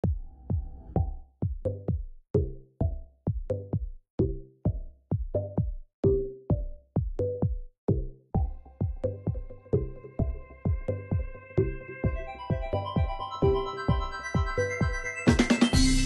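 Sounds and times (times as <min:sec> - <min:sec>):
electronic music with drum-machine beat: 0:00.0 - 0:16.0.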